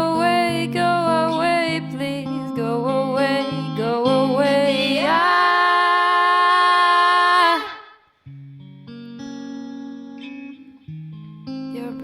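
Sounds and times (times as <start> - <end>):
guitar notes: 0.0 - 12.0.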